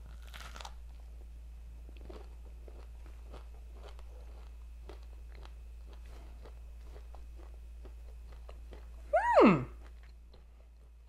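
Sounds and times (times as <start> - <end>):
crunchy chewing: 0.0 - 9.1, 9.7 - 11.0
low steady hum: 0.0 - 11.0.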